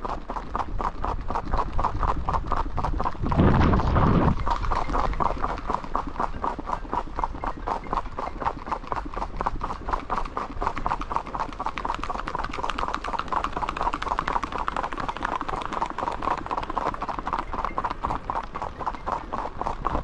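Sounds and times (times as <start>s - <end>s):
hooves clip-clopping on asphalt: 0.0s - 20.0s.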